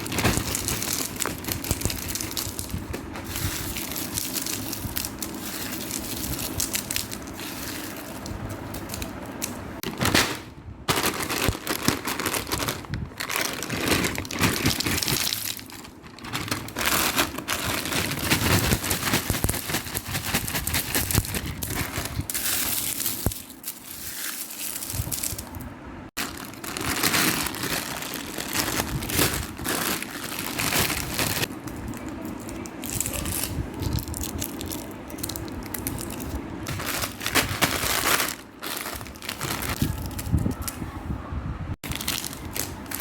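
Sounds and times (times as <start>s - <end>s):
plastic wrappers crinkling: 0.0s - 25.6s, 26.2s - 40.8s, 41.8s - 43.0s.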